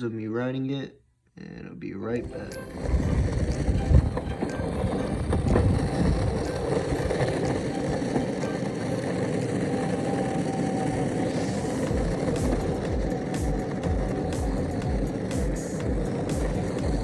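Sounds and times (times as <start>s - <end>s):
longboard wheels rumbling on pavement: 2.2s - 17.0s.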